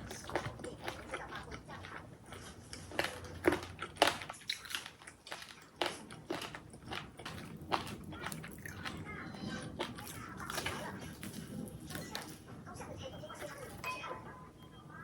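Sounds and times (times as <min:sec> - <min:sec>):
crunchy food chewing: 0:00.0 - 0:13.9.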